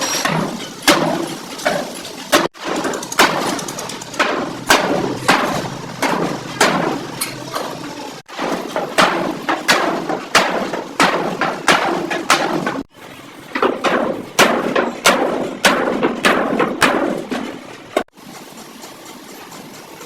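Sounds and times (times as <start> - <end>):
hammer blows on sheet metal: 0.2 - 12.9, 13.6 - 18.1.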